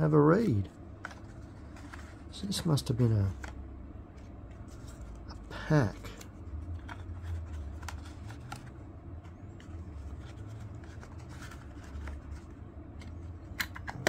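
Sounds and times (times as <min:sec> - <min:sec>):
low steady hum: 0:00.0 - 0:14.0
paper and cardboard rustling: 0:00.2 - 0:03.5, 0:04.2 - 0:13.2.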